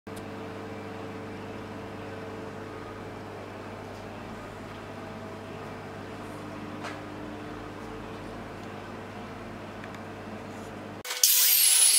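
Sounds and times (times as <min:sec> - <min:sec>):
steady mechanical hum: 0:00.1 - 0:11.9.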